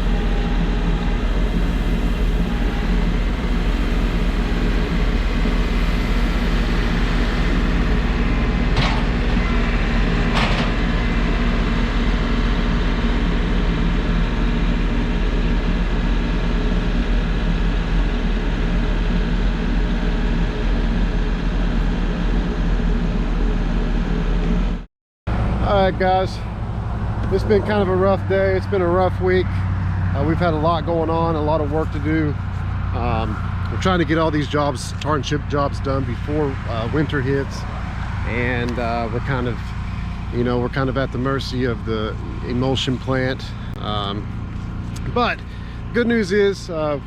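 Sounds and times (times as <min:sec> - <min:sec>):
paving machine engine running: 0:00.0 - 0:47.0.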